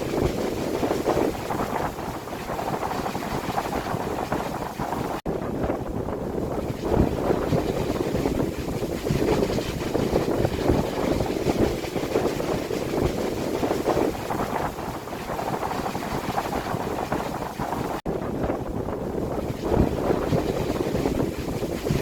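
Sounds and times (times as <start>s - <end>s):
strong wind gusts: 0.0s - 22.0s
wind buffeting microphone: 0.0s - 22.0s.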